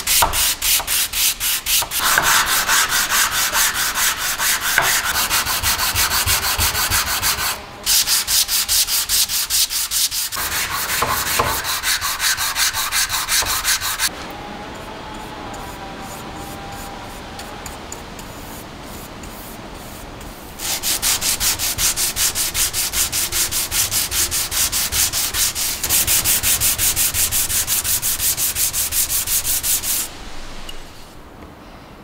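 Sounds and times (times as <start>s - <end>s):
sandpaper rubbing by hand: 0.0s - 14.1s, 18.9s - 31.1s.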